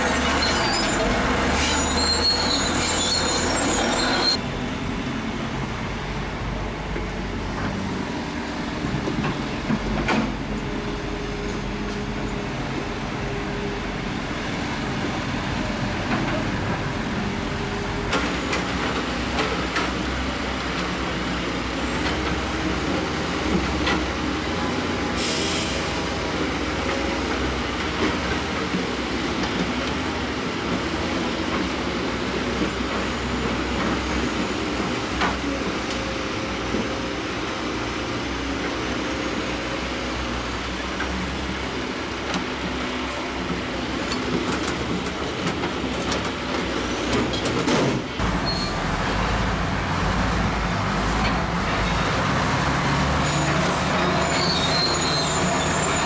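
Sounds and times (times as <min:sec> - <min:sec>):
steel tracks clanking: 0:00.0 - 0:04.5, 0:11.4 - 0:56.0
bulldozer diesel engine running: 0:00.0 - 0:56.0.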